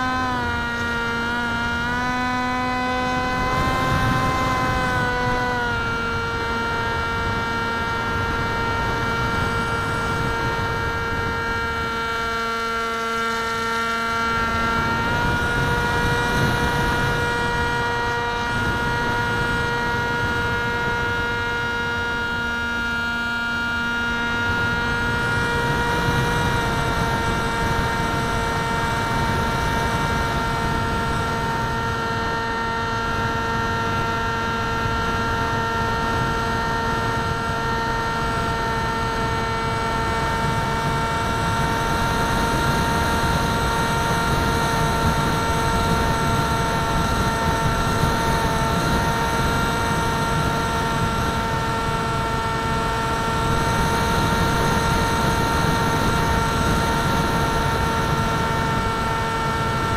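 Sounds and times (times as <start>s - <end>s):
model aircraft motor whine: 0.0s - 59.9s.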